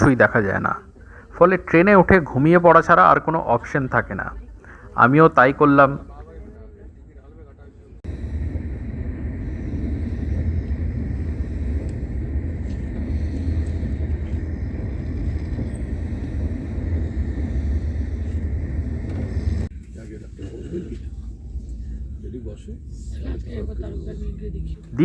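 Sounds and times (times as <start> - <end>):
train rumbling at speed: 0.0 - 25.0.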